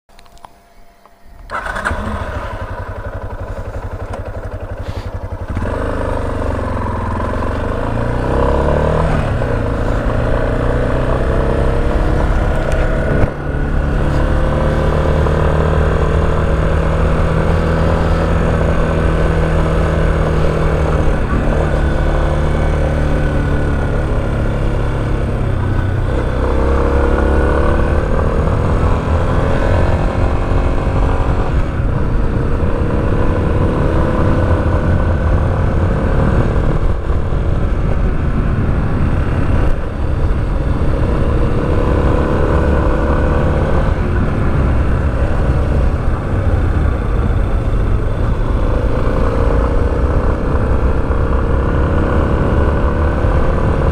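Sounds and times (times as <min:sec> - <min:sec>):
motorcycle engine running: 0:00.2 - 0:53.9.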